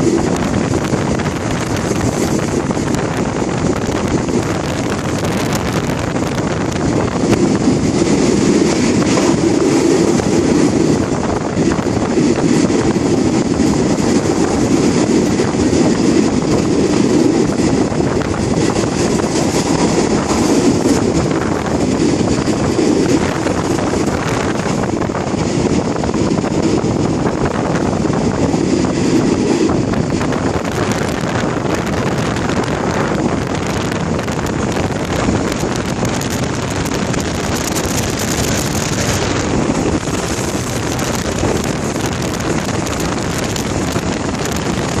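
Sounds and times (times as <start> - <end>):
moving train rushing noise: 0.0 - 45.0
wind buffeting microphone: 0.0 - 45.0.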